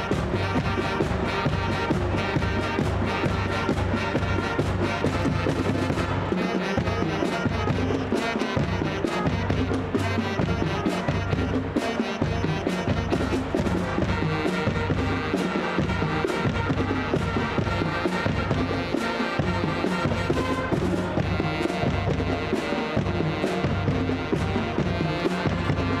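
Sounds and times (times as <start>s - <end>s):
marching drums beat: 0.0s - 26.0s
wind band playing upbeat tune: 0.0s - 26.0s.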